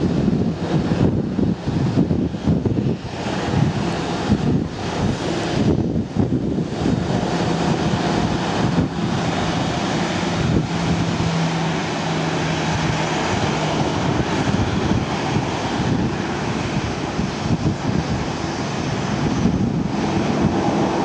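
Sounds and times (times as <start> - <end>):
jet engines droning: 0.0 - 21.0
wind on microphone: 0.0 - 21.0.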